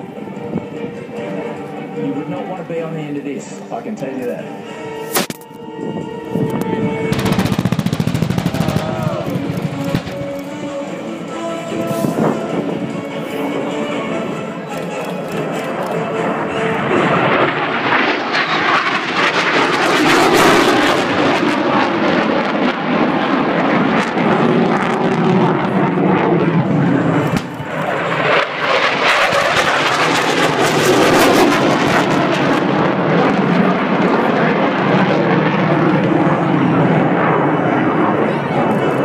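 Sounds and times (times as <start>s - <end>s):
fighter jet engines roaring: 0.0s - 39.0s.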